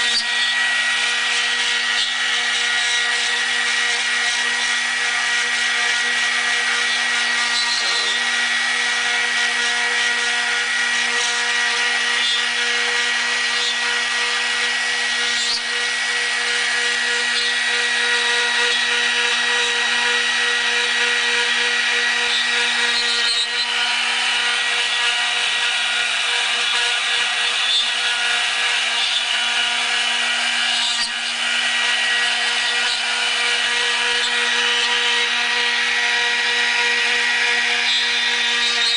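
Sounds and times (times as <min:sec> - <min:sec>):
bit rasping through wood: 0:00.0 - 0:38.9
router spindle whine: 0:00.0 - 0:38.9.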